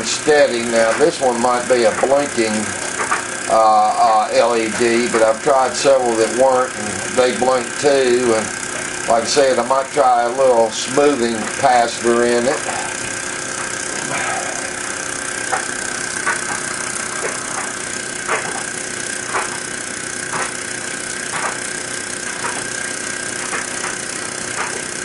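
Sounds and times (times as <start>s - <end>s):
miniature steam engine running: 0.0s - 25.0s.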